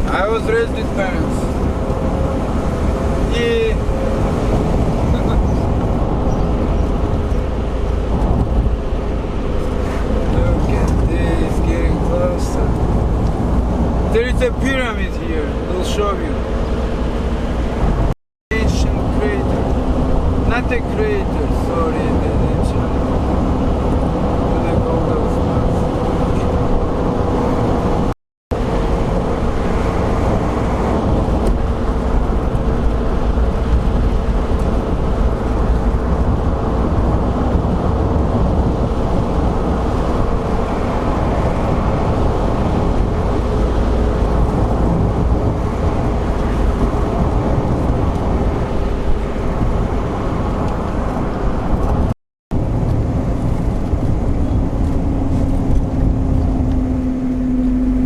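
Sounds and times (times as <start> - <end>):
car engine hum: 0.0 - 58.0
road noise: 0.0 - 58.0.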